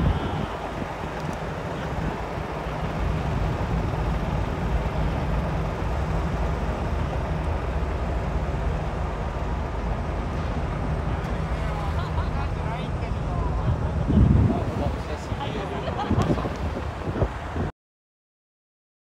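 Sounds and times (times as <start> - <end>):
road noise: 0.0 - 17.7
vehicle engine hum: 0.0 - 17.7.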